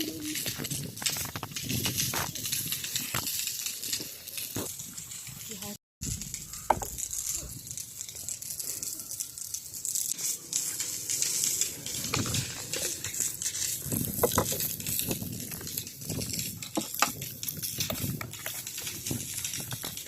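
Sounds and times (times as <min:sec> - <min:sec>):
food crackling and sizzling: 0:00.0 - 0:20.0.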